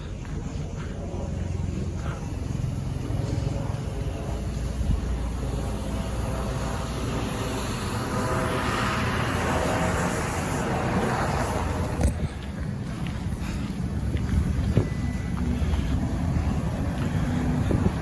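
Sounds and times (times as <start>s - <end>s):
vehicle passing by: 0.5s - 18.0s.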